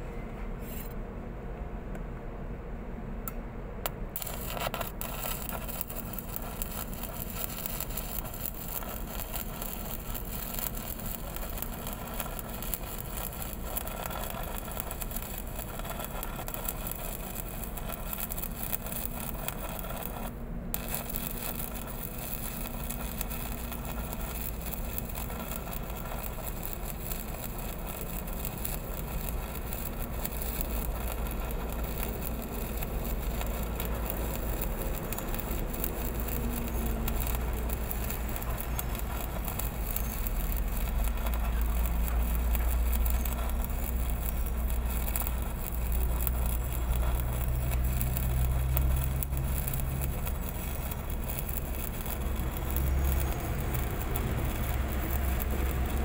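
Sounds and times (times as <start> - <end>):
steady low hum: 0.0 - 56.0
welding arc crackling and sizzling: 3.9 - 56.0.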